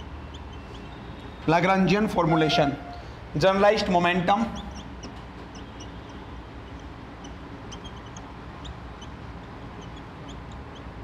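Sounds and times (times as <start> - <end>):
whiteboard marker squeaking: 0.0 - 1.4, 2.1 - 3.0, 4.4 - 11.0.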